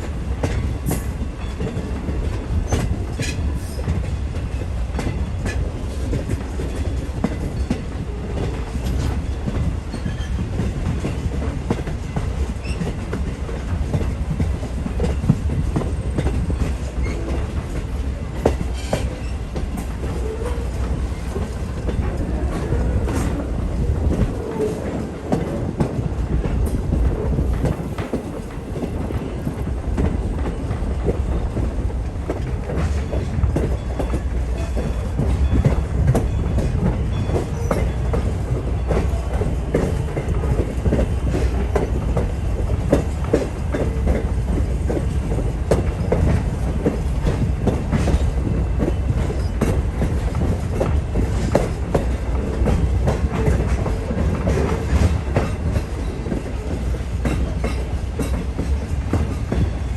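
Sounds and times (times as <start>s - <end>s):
train coach rumbling: 0.0s - 59.9s.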